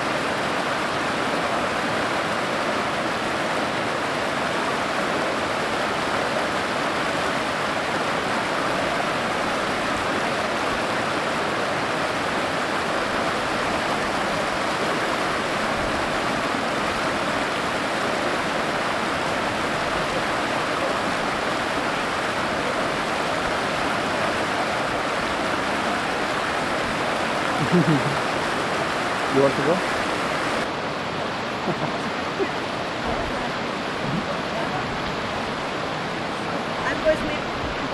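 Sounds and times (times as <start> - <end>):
river rapids rushing over boulders: 0.0 - 37.9.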